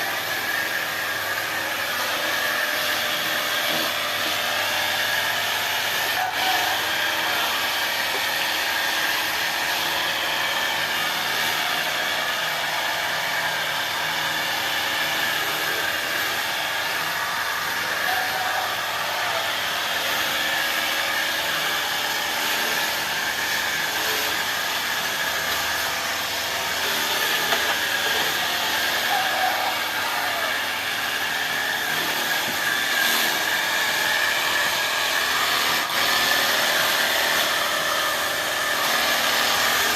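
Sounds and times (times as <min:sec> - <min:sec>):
pump motor whirring: 0:00.0 - 0:39.9.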